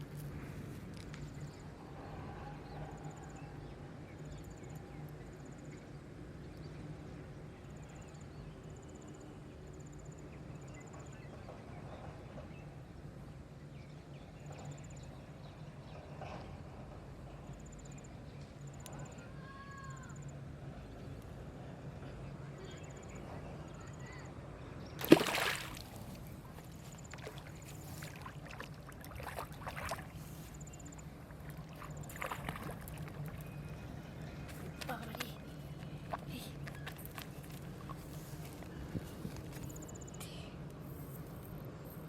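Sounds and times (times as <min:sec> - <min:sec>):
outdoor background noise: 0:00.0 - 0:42.0.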